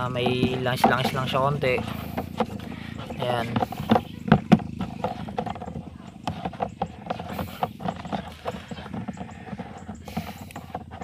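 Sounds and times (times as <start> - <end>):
metal knocking against basin: 0.0 - 11.0
soapy water sloshing: 0.0 - 11.0.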